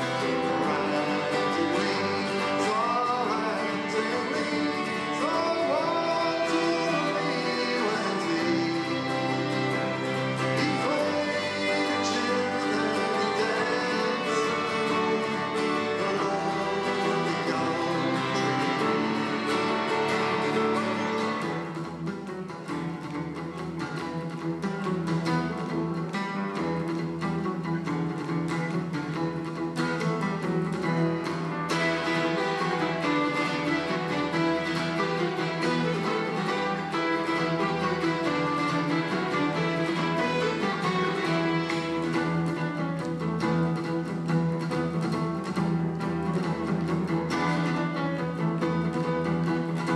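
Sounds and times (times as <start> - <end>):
strummed acoustic guitar: 0.0 - 49.9
violins bowing folk tune: 0.0 - 49.9.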